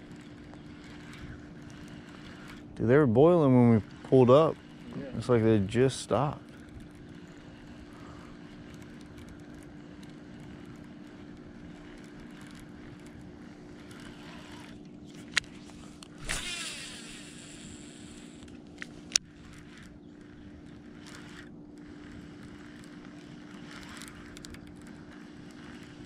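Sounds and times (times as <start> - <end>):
fishing reel click: 0.0 - 26.0
low hum: 0.0 - 26.0
reel spool spinning: 0.0 - 26.0.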